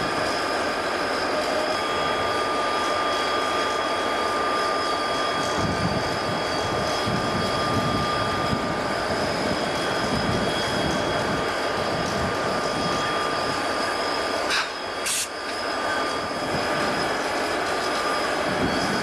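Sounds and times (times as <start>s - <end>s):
freight train rumbling past: 0.0s - 19.0s
high-pitched whine: 0.0s - 19.0s.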